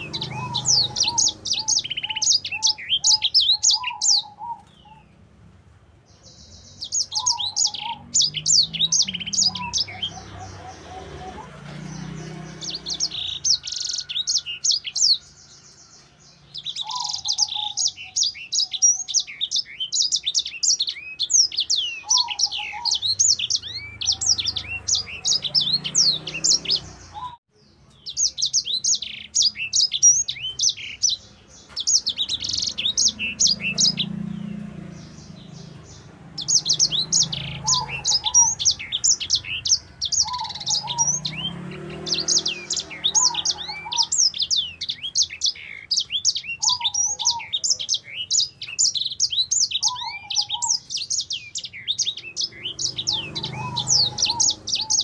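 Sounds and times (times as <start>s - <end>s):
bird singing chirps and trills: 0.0s - 55.0s.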